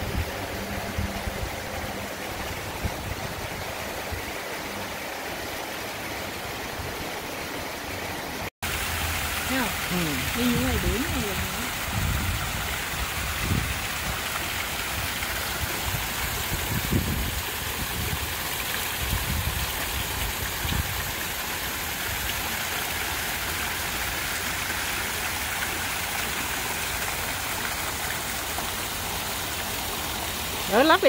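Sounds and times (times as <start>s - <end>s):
fountain water splashing: 0.0s - 31.0s.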